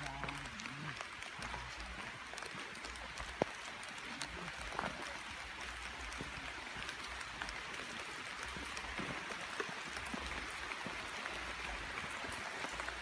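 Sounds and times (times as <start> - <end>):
raindrops tapping: 0.0 - 13.0
steady rain hiss: 0.0 - 13.0.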